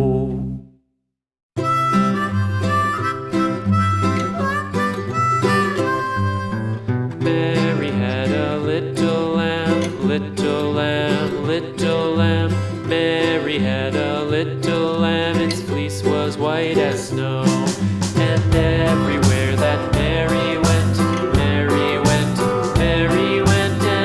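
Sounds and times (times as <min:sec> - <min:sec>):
country instrumental music: 0:01.6 - 0:24.0.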